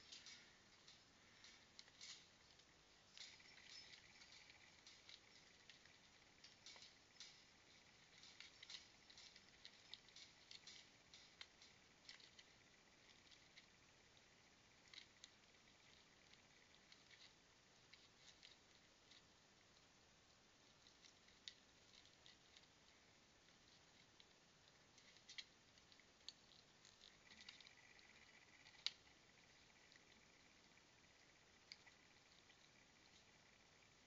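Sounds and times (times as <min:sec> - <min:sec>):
claws clicking and scratching: 0:00.0 - 0:34.0.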